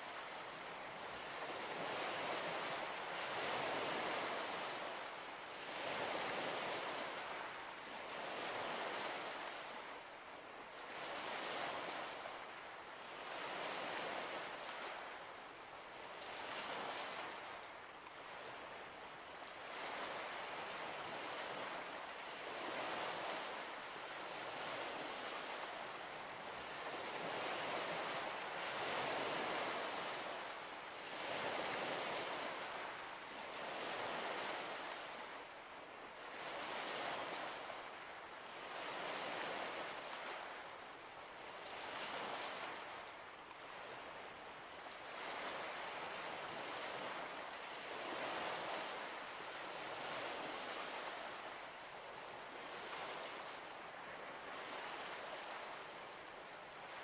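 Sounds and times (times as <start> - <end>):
waves washing onto shore: 0.0 - 57.0.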